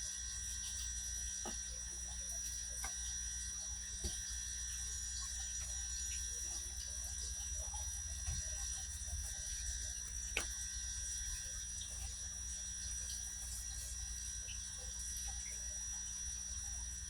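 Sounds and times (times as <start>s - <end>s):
low background hum: 0.0s - 17.0s
thin high whine: 0.0s - 17.0s.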